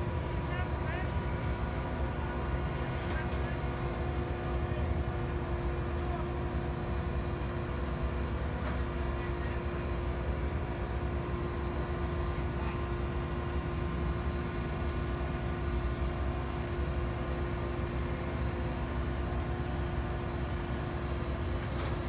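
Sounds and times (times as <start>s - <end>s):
crane engine droning: 0.0s - 22.0s
steady hum: 0.0s - 22.0s.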